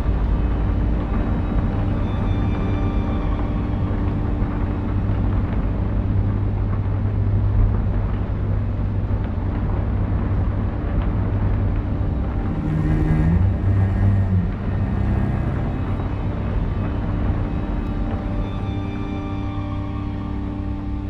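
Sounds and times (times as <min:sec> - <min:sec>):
held low notes: 0:00.0 - 0:21.0
low rumbling drone: 0:00.0 - 0:21.0.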